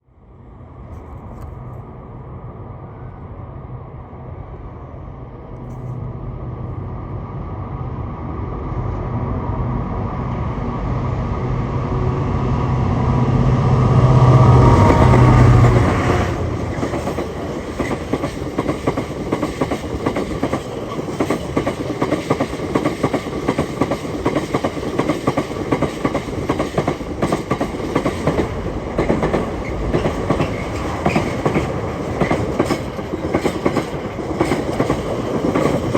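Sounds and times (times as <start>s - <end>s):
diesel locomotive passing: 0.1s - 35.9s.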